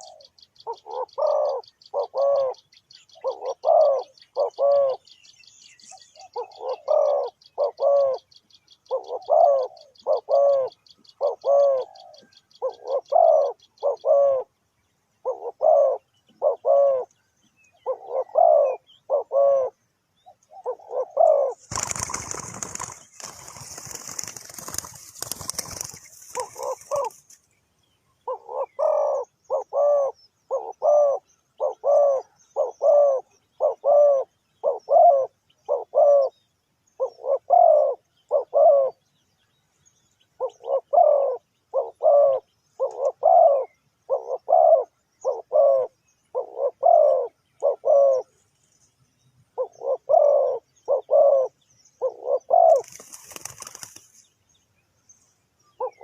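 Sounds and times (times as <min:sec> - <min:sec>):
dove cooing: 0:00.0 - 0:05.1, 0:06.0 - 0:14.5, 0:15.2 - 0:17.1, 0:17.8 - 0:19.8, 0:20.5 - 0:27.3, 0:28.3 - 0:36.4, 0:37.0 - 0:39.0, 0:40.4 - 0:48.4, 0:49.6 - 0:54.0, 0:55.8 - 0:56.0.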